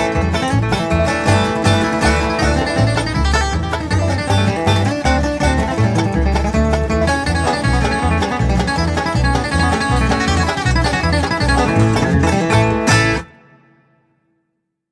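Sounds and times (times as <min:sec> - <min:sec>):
bass notes: 0:00.0 - 0:13.4
fast picked guitar: 0:00.0 - 0:13.7
banjo: 0:00.0 - 0:14.0.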